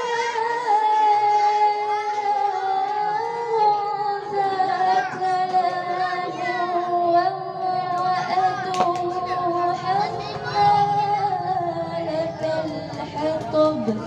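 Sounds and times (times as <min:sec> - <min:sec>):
girl singing melodic chant: 0:00.0 - 0:14.0.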